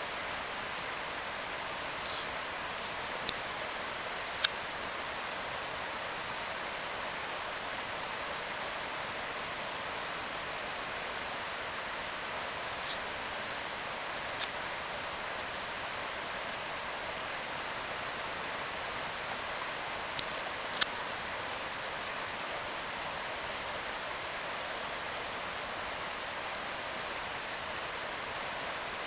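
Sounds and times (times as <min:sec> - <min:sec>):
river running over rocks: 0:00.0 - 0:29.0.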